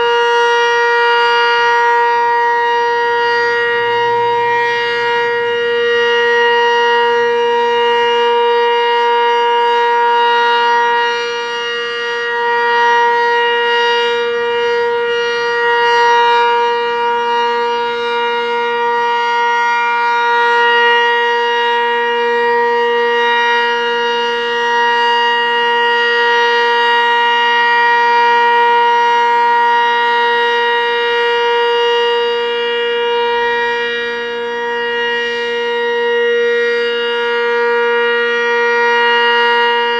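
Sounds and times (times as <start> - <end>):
electromechanical warning siren: 0.0 - 39.9.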